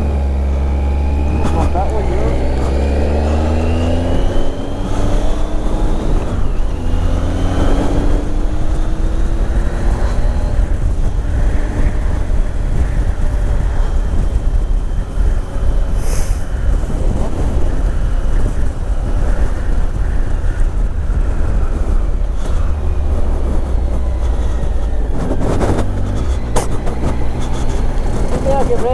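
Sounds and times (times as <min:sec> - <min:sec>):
motorcycle engine accelerating: 0:00.0 - 0:28.9
wind rumble on microphone: 0:00.0 - 0:28.9.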